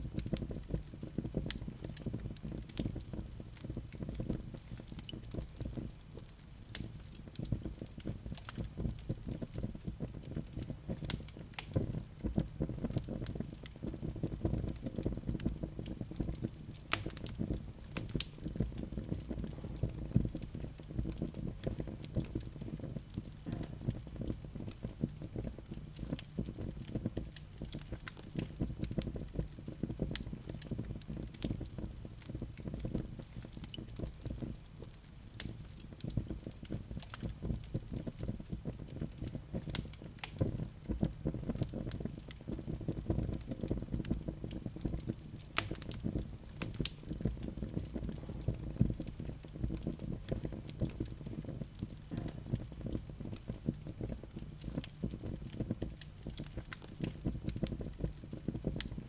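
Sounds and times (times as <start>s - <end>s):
fire crackling: 0.0s - 59.0s
low rumble of flame: 0.0s - 59.0s.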